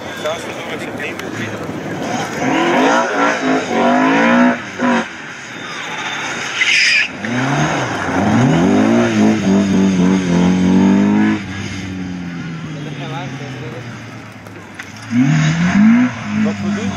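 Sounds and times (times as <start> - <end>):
rally car engine revving: 1.0 - 16.9.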